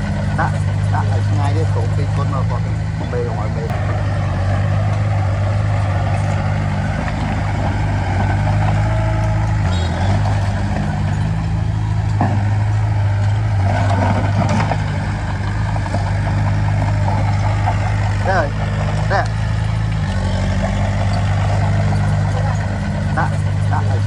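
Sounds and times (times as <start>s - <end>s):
heavy machinery diesel engine running: 0.0s - 24.0s.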